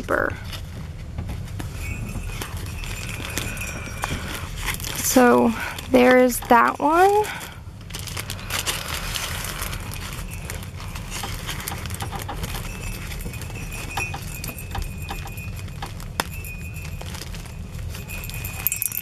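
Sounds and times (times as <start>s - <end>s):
fabric and ribbon rustling: 0.0s - 19.0s
cellophane crinkling: 0.4s - 19.0s.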